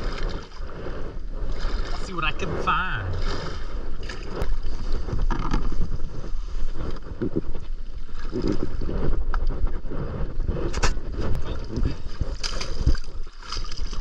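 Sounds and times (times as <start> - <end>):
paddle splashing water: 0.0 - 14.0
wind buffeting microphone: 0.0 - 14.0.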